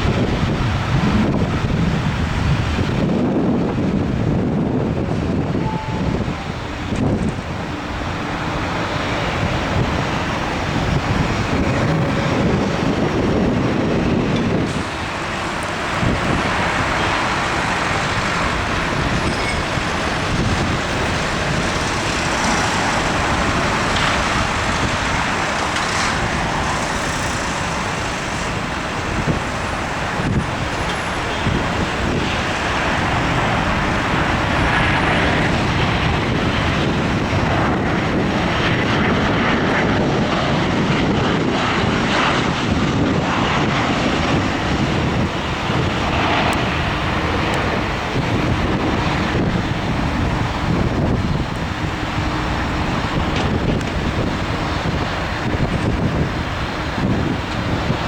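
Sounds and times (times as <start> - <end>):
jet engines rushing: 0.0 - 58.0.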